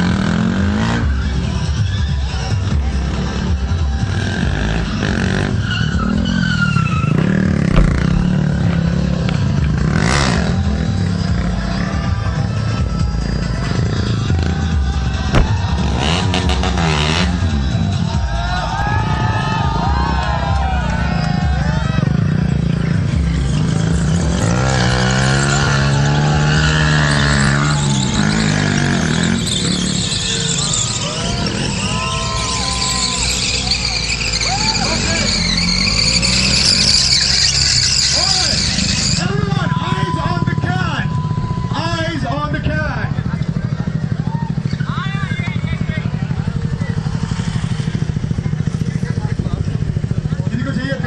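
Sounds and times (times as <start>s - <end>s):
racing motorcycle engines: 0.0s - 51.0s.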